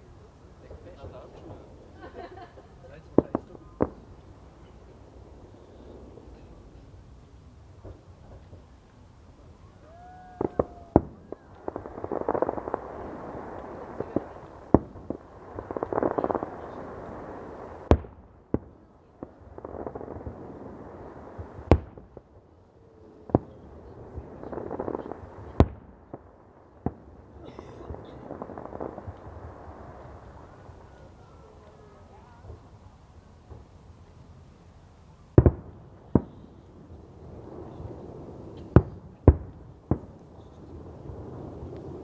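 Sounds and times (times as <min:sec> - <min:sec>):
firework bangs: 0:00.0 - 0:42.0
fireworks crackling: 0:00.0 - 0:42.0.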